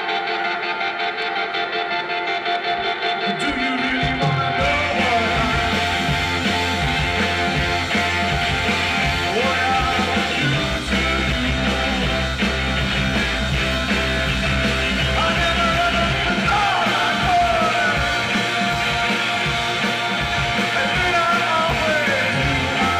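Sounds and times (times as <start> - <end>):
electric guitar: 0.0 - 22.9
keyboards: 0.0 - 22.9
drum kit: 3.4 - 22.9.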